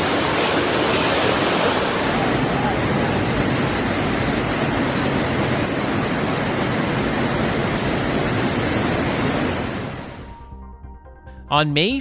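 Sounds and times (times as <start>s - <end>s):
rushing storm water: 0.0s - 10.3s.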